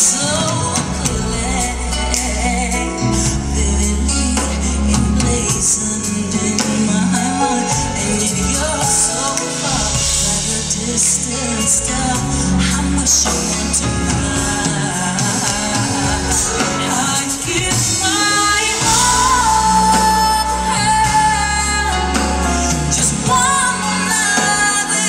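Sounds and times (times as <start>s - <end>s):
band accompaniment with bass: 0.0s - 25.0s
woman singing pop ballad: 0.0s - 25.0s.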